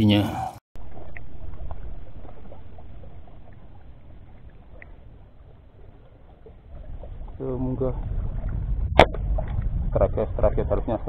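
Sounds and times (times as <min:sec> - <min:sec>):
wind rumble on microphone: 0:00.9 - 0:11.0.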